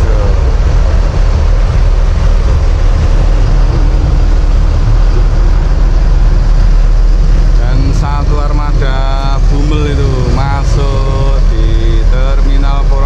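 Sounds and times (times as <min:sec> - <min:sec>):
diesel bus engine rumble: 0:00.0 - 0:13.0.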